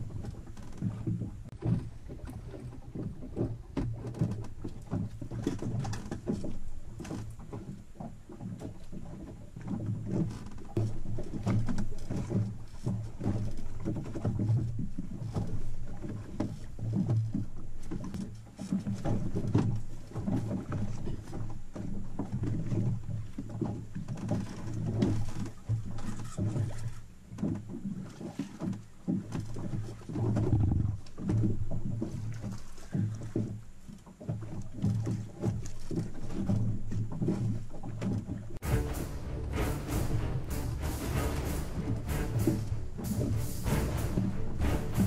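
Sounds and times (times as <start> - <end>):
water slapping against hull: 0.0 - 45.0.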